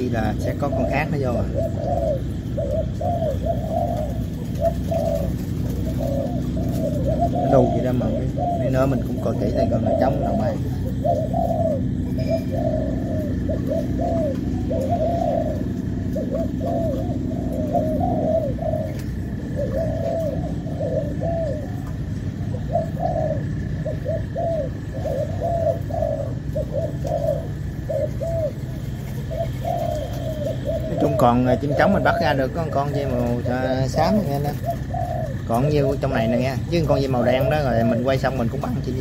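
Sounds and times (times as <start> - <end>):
doves cooing: 0.0 - 39.0
steady low hum: 0.0 - 39.0.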